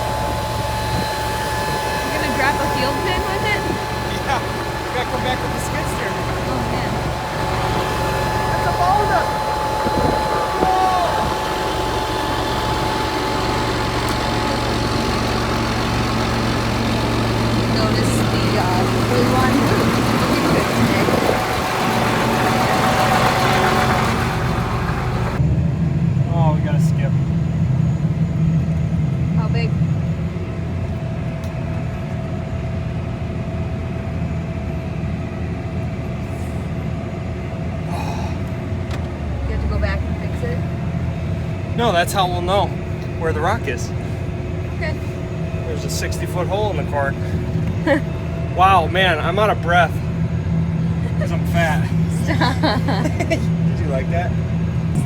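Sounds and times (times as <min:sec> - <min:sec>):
thin steady whine: 0:00.0 - 0:55.0
tractor engine running: 0:00.0 - 0:55.0.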